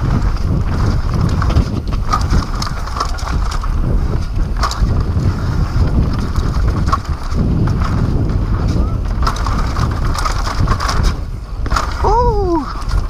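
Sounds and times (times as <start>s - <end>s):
bike rattles and knocks: 0.0s - 13.0s
wind buffeting microphone: 0.0s - 13.0s.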